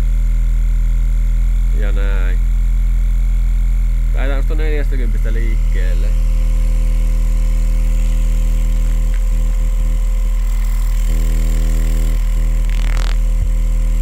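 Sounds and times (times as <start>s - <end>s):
subwoofer low test tone: 0.0s - 14.0s.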